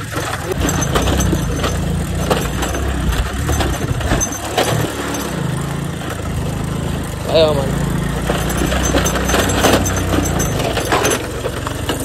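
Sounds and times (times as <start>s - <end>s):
rattling knocks: 0.0s - 6.3s, 8.1s - 12.0s
small motorbike engine under load: 0.0s - 12.0s.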